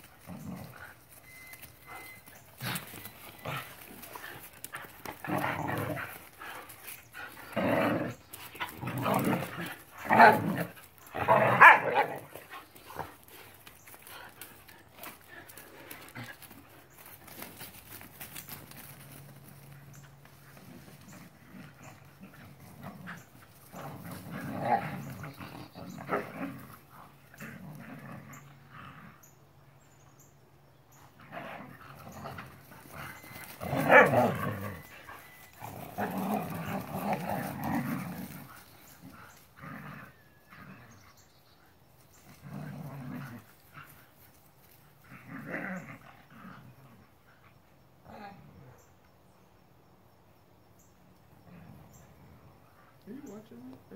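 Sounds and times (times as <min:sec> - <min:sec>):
dogs growling and play-fighting: 0:00.0 - 0:29.8, 0:30.6 - 0:49.4, 0:51.0 - 0:53.9.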